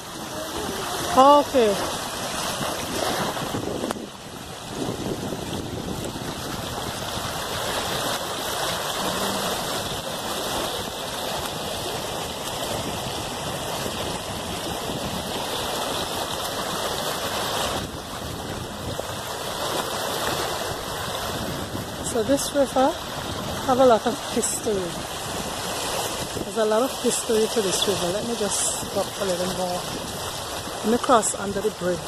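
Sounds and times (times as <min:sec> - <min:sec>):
river running over stones: 0:00.0 - 0:32.0.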